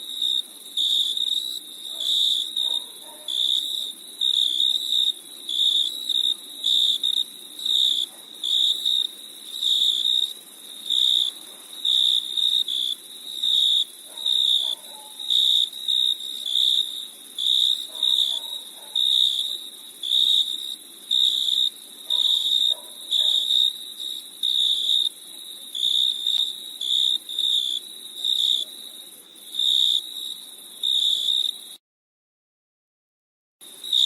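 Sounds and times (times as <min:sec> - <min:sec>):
crickets chirping: 0:00.0 - 0:31.8, 0:33.6 - 0:34.0
steady high-pitched hiss: 0:00.0 - 0:31.8, 0:33.6 - 0:34.0.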